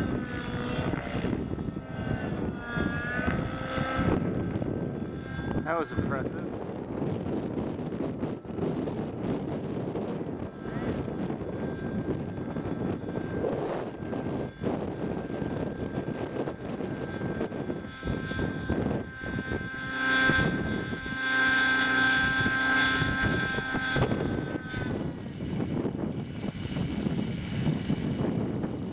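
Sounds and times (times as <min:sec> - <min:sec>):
model helicopter engine whine: 0:00.0 - 0:28.9
wind buffeting microphone: 0:00.0 - 0:28.9.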